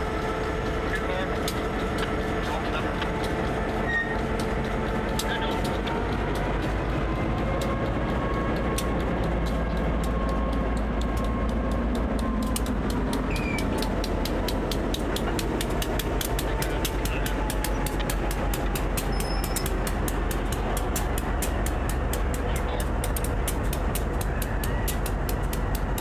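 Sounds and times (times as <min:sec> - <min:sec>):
locomotive rumble: 0:00.0 - 0:26.0
train wheels clicking: 0:00.0 - 0:26.0.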